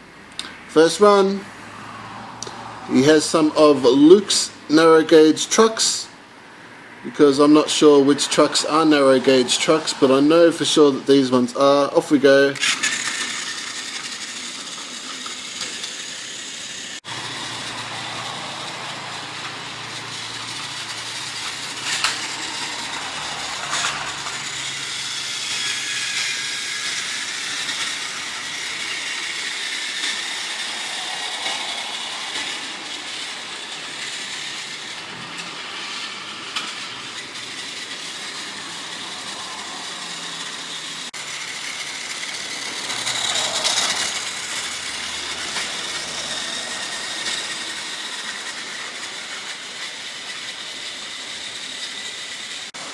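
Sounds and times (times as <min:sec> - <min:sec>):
toy train motor running: 0:00.4 - 0:06.1, 0:06.8 - 0:52.9.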